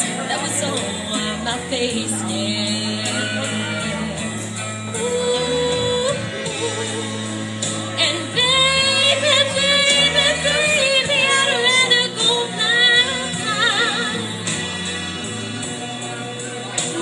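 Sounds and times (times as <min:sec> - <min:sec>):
woman singing into microphone: 0:00.0 - 0:15.1
slow soul backing track: 0:00.0 - 0:17.0.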